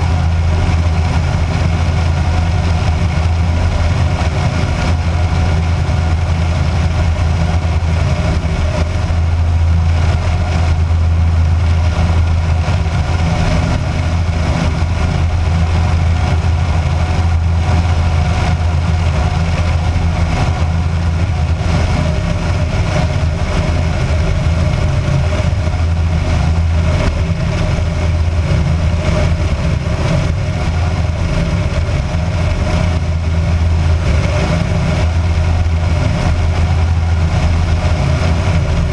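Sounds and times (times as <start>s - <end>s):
light aircraft engine droning: 0.0s - 38.9s.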